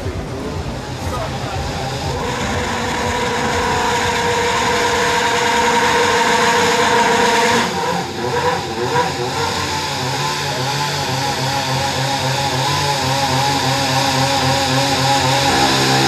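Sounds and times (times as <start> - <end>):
race car engine screaming: 0.0 - 16.0.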